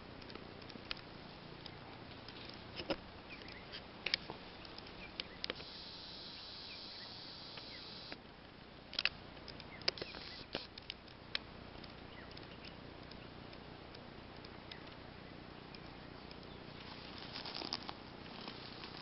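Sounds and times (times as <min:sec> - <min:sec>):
steady high hiss: 0:00.0 - 0:19.0
sharp clicks and crackles: 0:00.2 - 0:08.2, 0:08.9 - 0:15.0, 0:15.7 - 0:19.0.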